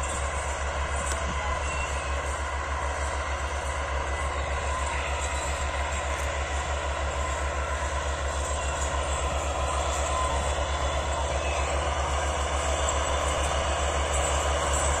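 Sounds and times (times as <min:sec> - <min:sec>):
tractor diesel engines under load: 0:00.0 - 0:15.0.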